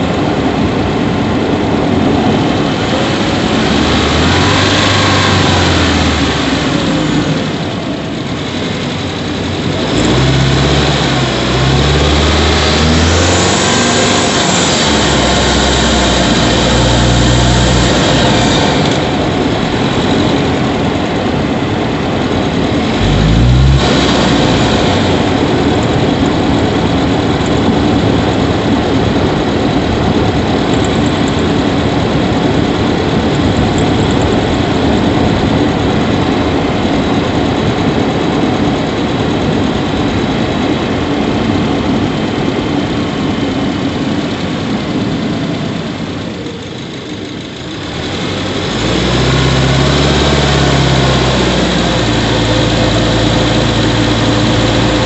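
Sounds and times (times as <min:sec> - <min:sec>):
car engine running: 0:00.0 - 0:55.0
intake rushing: 0:00.0 - 0:55.0.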